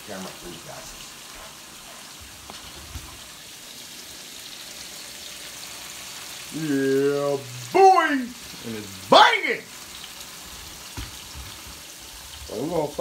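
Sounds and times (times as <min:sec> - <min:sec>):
steaks sizzling in a frying pan: 0:00.0 - 0:13.0.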